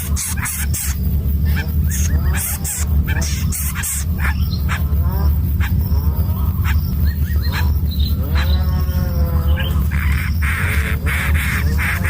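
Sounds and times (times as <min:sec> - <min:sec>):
low hum: 0:00.0 - 0:12.0
wavering animal cries: 0:00.0 - 0:12.0.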